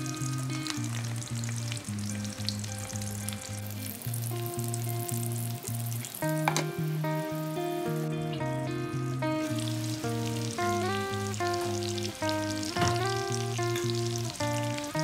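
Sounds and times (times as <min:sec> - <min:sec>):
background music: 0:00.0 - 0:15.0
food sizzling in hot oil: 0:00.0 - 0:15.0.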